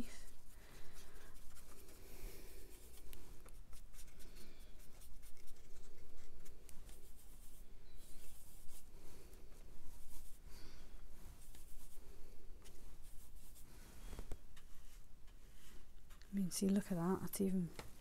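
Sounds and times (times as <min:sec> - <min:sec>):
paintbrush rubbing in paint pans: 0:00.0 - 0:16.4.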